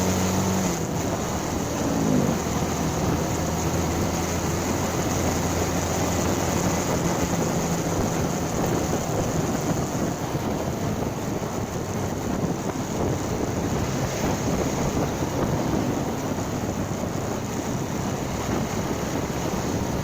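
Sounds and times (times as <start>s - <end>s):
motorcycle engine running: 0.0s - 20.0s
wind rushing over microphone: 0.0s - 20.0s.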